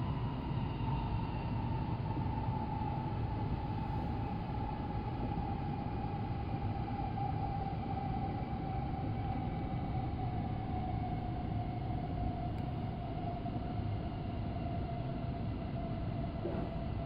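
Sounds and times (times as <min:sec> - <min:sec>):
train running noise inside car: 0:00.0 - 0:17.0.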